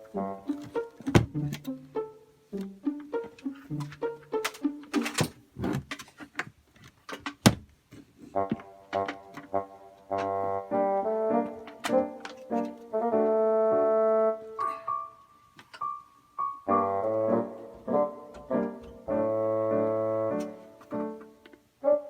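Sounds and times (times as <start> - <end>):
keyboard and brass chords: 0.0 - 5.2, 8.3 - 22.0.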